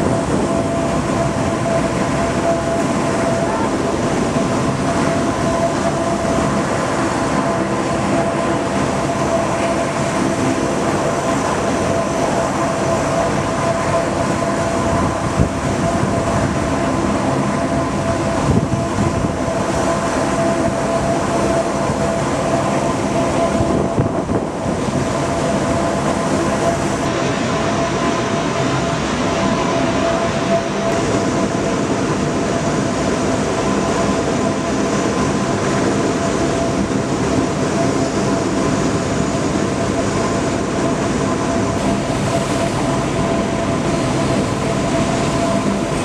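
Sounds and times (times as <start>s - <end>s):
aircraft engines rumbling: 0.0s - 46.0s
steady high whine: 0.0s - 46.0s.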